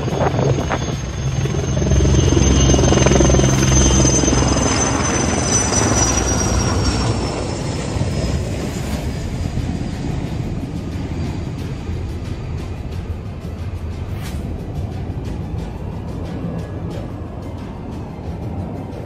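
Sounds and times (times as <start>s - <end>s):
helicopter rotor beat: 0.0s - 19.0s
high turbine whine: 0.0s - 19.0s.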